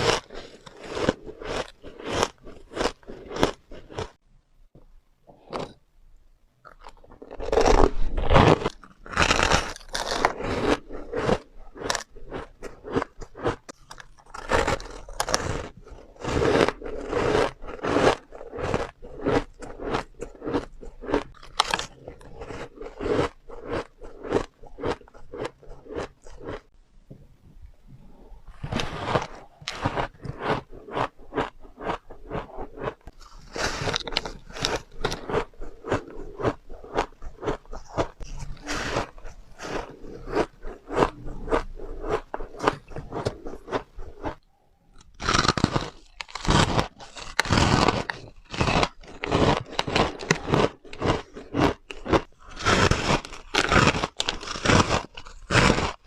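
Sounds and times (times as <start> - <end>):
chewing crunchy ice: 0.0 - 4.2, 6.6 - 26.8, 28.5 - 56.0.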